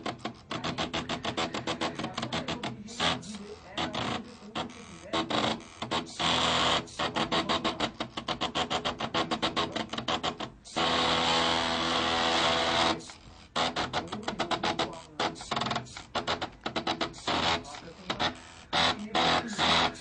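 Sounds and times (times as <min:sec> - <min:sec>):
stepper motor stuttering steps: 0:00.0 - 0:20.0.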